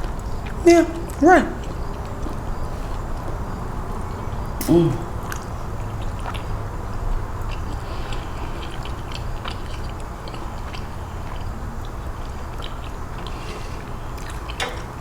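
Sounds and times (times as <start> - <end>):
chewing and crunching chips: 0.0 - 15.0.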